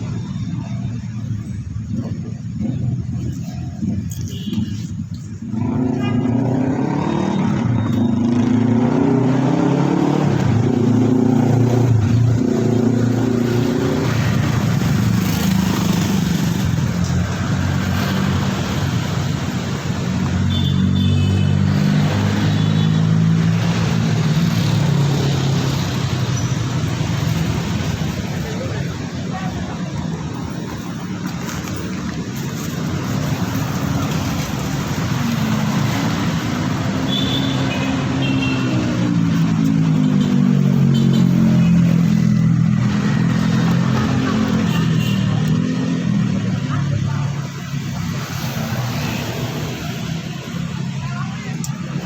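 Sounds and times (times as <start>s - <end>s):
vehicle engine accelerating: 5.5s - 20.5s, 21.4s - 50.8s.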